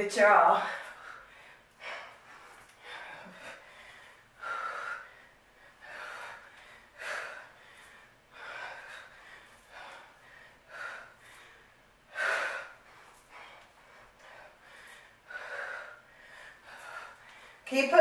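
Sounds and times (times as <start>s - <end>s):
woman breathing hard: 0.6s - 17.7s.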